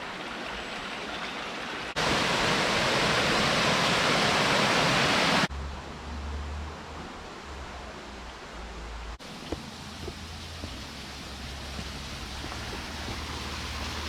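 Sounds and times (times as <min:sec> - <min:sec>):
river water rushing: 0:00.0 - 0:05.5, 0:06.6 - 0:14.0.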